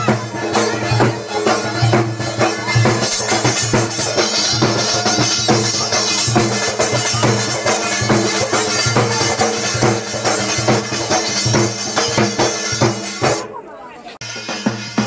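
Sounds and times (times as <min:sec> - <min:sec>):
dhol drum beating: 0:00.0 - 0:15.0.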